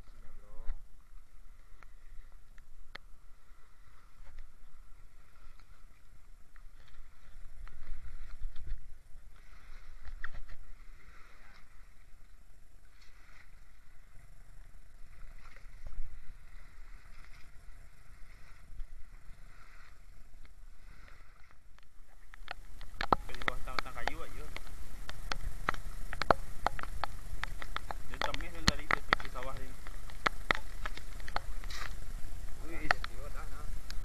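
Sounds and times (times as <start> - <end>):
lake water splashing: 0.0 - 34.0
wind rumble on microphone: 0.0 - 34.0.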